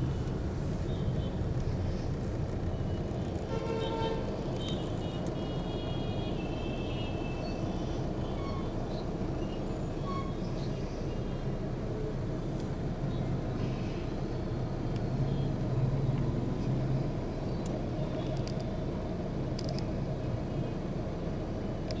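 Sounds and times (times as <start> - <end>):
traffic engines idling: 0.0 - 22.0.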